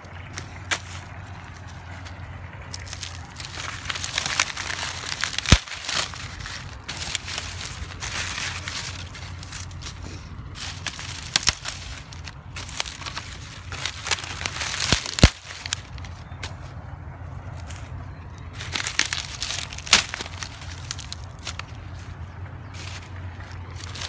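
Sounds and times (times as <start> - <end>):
corn stalks snapping: 0.0 - 16.8, 17.5 - 24.0
dry corn leaves rustling: 0.0 - 24.0.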